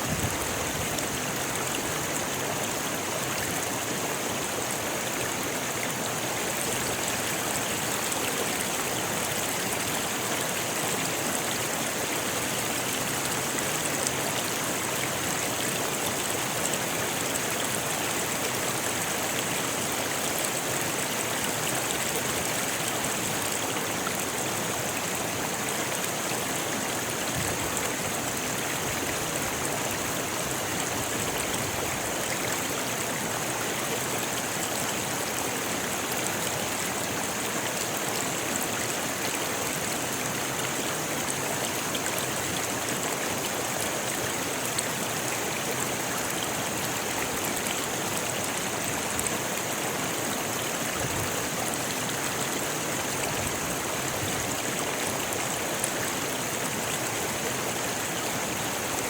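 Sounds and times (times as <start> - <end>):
water rushing over stones: 0.0 - 59.0.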